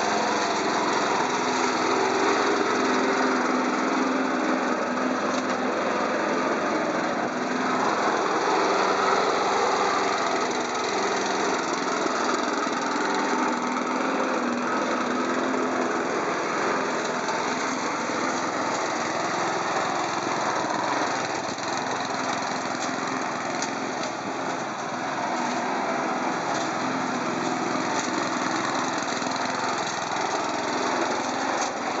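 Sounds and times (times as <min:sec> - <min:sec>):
small engine running: 0:00.0 - 0:32.0.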